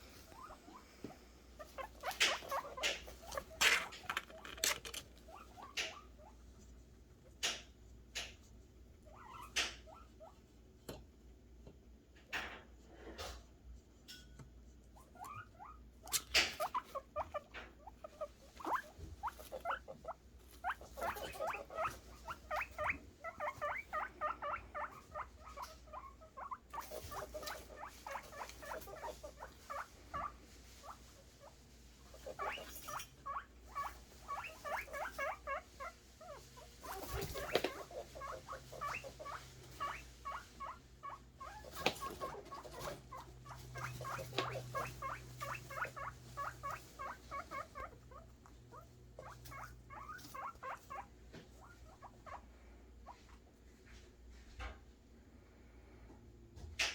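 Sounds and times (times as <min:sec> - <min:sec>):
guinea pigs wheeking: 0:00.0 - 0:10.6, 0:14.9 - 0:54.1.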